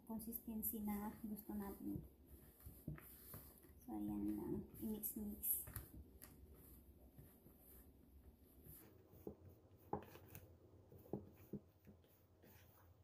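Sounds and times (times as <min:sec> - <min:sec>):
hand kneading dough: 0:00.0 - 0:13.0.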